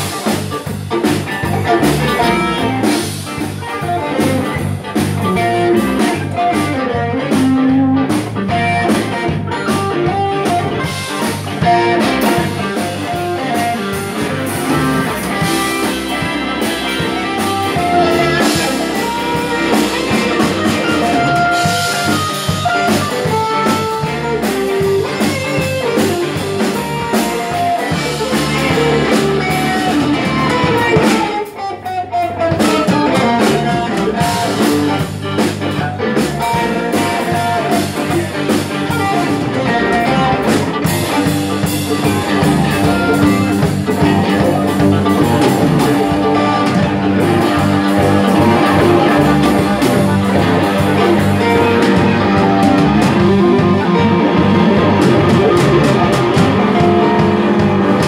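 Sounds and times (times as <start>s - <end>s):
blues band playing: 0.0s - 58.0s.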